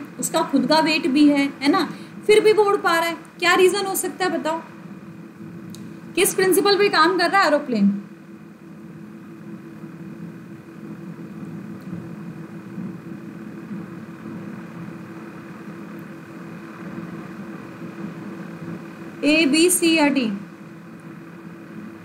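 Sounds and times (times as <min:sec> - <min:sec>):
faint high whine: 0:00.0 - 0:22.0
low mechanical hum: 0:00.0 - 0:22.0.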